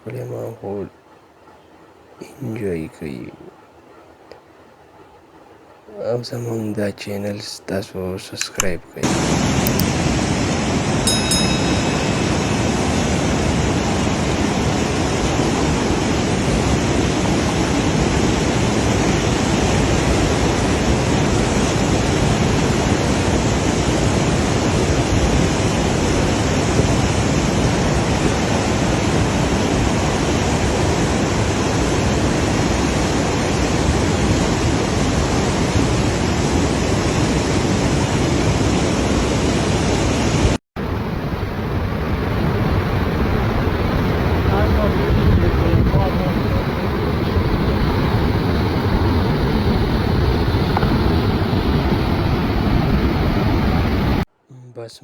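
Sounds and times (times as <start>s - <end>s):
fast-flowing water rushing: 8.0s - 54.2s.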